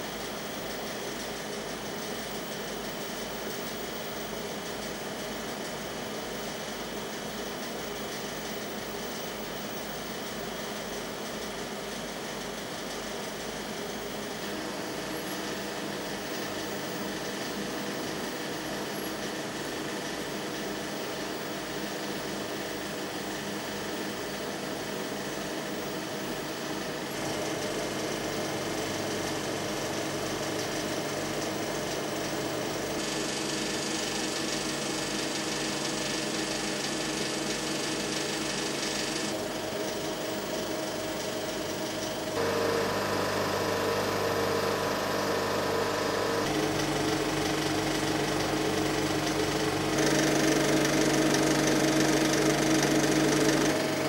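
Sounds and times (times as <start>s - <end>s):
film projector whirring and rattling: 0.0s - 54.0s.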